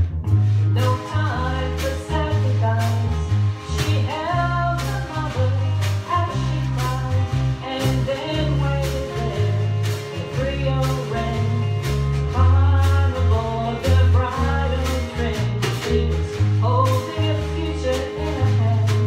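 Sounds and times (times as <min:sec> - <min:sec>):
bass line: 0:00.0 - 0:19.0
drum kit beat: 0:00.0 - 0:19.0
electric and acoustic guitars: 0:00.4 - 0:19.0
person singing: 0:00.7 - 0:19.0.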